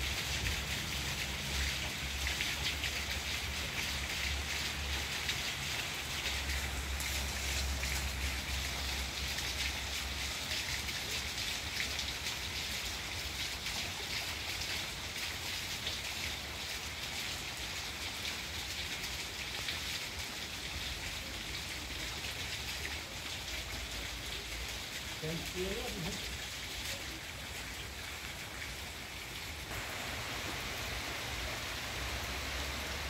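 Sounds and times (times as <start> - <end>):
rain falling on plants: 0.0 - 33.0.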